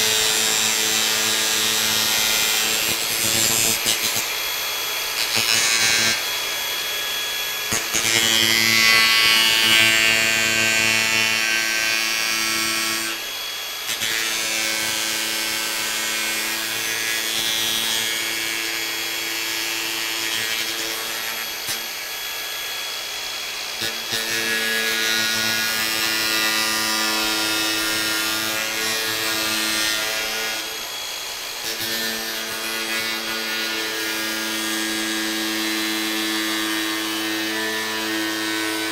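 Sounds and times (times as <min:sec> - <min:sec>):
angle grinder sanding: 0:00.0 - 0:38.9.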